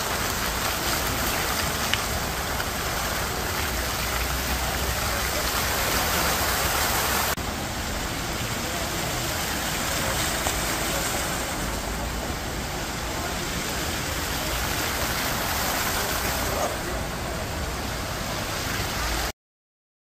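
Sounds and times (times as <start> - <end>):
fountain jets splashing into pool: 0.0 - 19.3.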